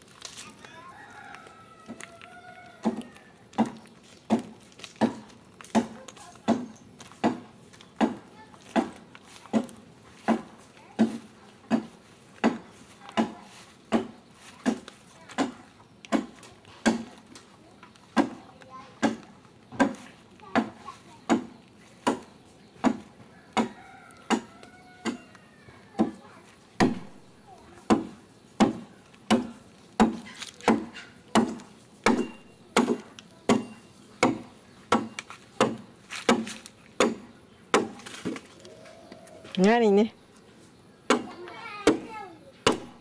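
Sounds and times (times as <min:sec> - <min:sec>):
adze chopping wood: 0:02.8 - 0:17.4, 0:18.1 - 0:18.4, 0:19.0 - 0:25.3, 0:26.0 - 0:26.2, 0:26.8 - 0:38.5, 0:41.1 - 0:43.0.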